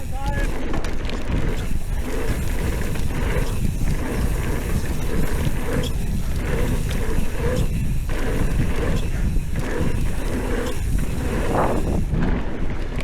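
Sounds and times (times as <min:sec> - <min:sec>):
bike tyres rumbling and rattling: 0:00.0 - 0:13.0
wind on microphone: 0:00.0 - 0:13.0.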